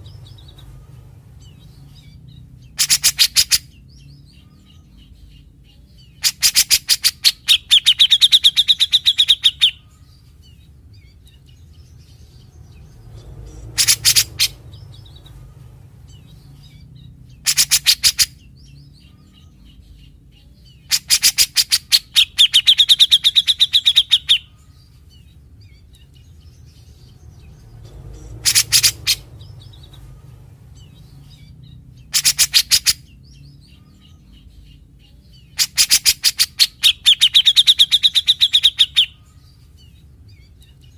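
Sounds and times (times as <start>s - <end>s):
bird singing rasping notes: 0.0s - 40.9s.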